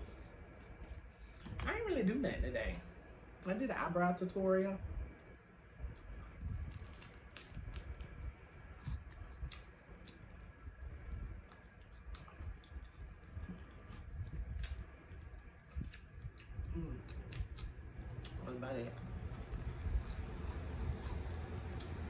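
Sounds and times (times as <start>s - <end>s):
person chewing crunchy food: 0.0s - 1.6s, 5.8s - 22.0s.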